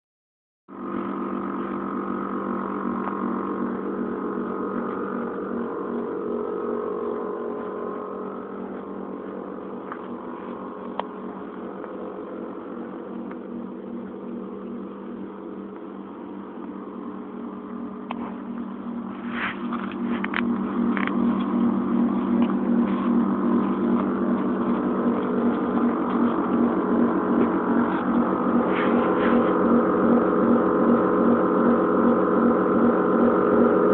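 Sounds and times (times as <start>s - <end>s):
car mechanical hum: 0.7s - 33.9s.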